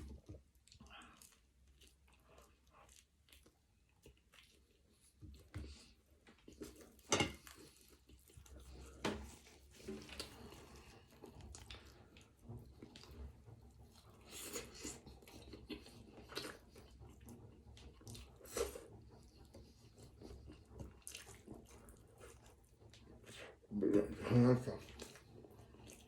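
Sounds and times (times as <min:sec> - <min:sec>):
person chewing: 0:00.1 - 0:23.6, 0:24.8 - 0:26.0.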